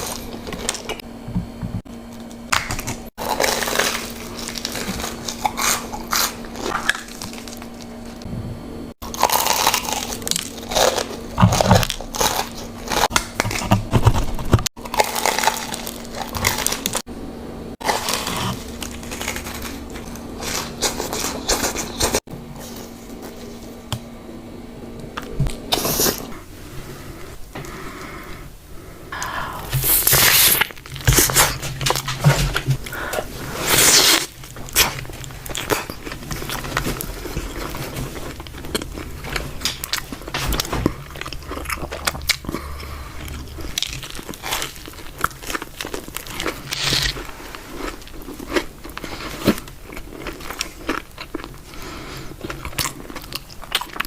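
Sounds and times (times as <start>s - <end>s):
crunchy chewing of fried food: 0.0s - 8.3s, 8.9s - 17.1s, 17.7s - 23.9s, 29.7s - 54.0s.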